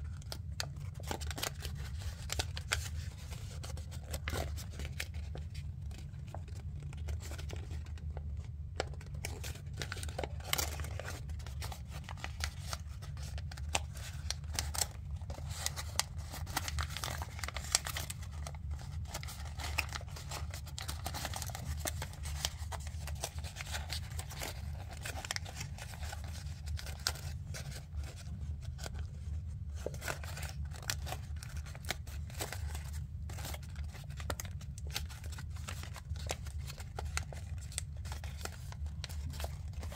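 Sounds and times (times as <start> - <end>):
paper being folded and creased: 0.0 - 39.9.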